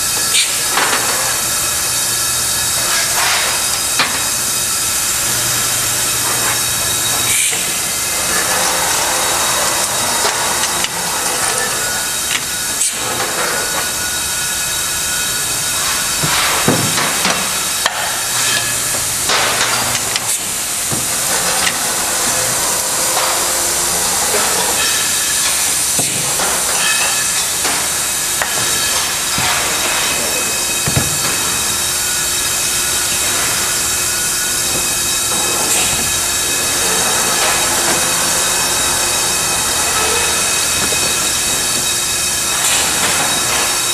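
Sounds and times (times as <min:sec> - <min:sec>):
machinery hissing and whining: 0:00.0 - 0:43.9.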